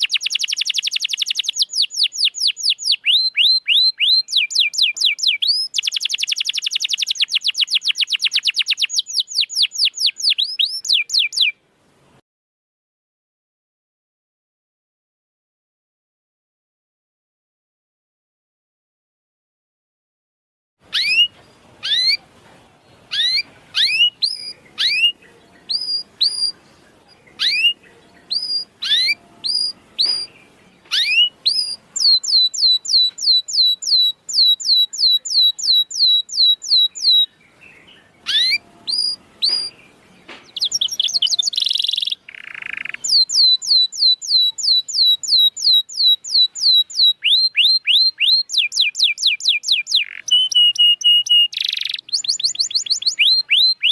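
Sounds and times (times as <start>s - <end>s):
canary singing: 0.0s - 11.6s, 20.8s - 53.9s.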